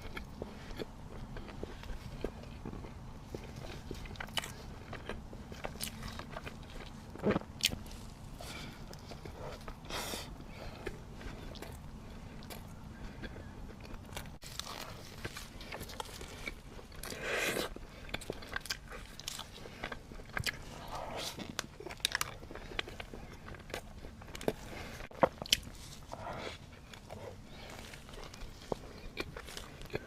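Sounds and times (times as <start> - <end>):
chewing and biting bread: 0.0 - 30.0.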